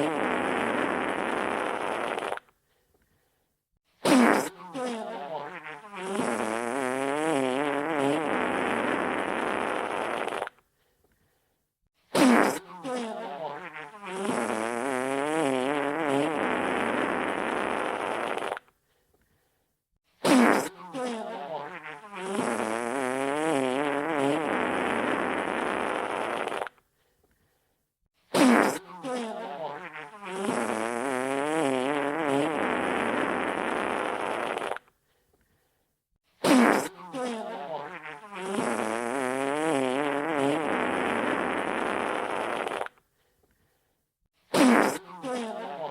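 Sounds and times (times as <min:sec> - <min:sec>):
wet fart sound effect: 0:00.0 - 0:02.5, 0:04.0 - 0:10.6, 0:12.1 - 0:18.7, 0:20.2 - 0:26.8, 0:28.3 - 0:34.9, 0:36.4 - 0:43.0, 0:44.5 - 0:45.9.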